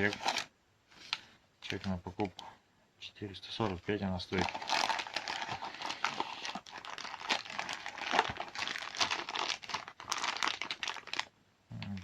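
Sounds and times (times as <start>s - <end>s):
packaging crinkling: 0.0s - 2.0s, 4.3s - 12.0s.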